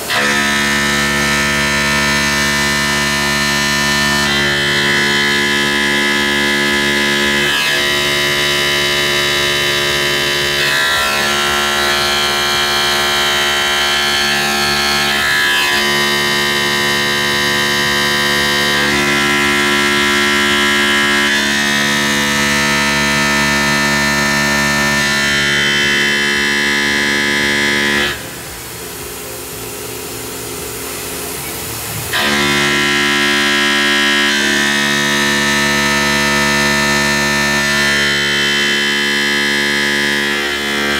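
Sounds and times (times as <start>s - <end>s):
steady machine noise: 0.0s - 40.9s
synthesizer chords: 0.0s - 40.9s.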